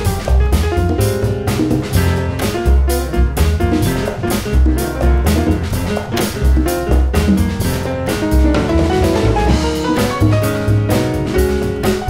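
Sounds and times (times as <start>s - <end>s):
congas struck by hand: 0.0s - 12.0s
jazz combo playing: 0.0s - 12.0s.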